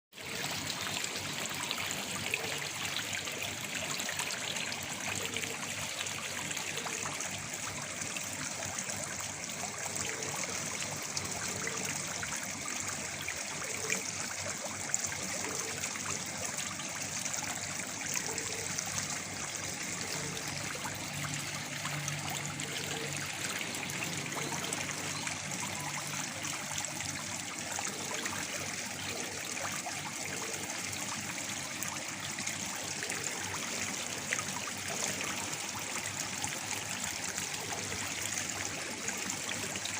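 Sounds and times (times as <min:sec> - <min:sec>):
small waterfall splashing: 0:00.1 - 0:39.9.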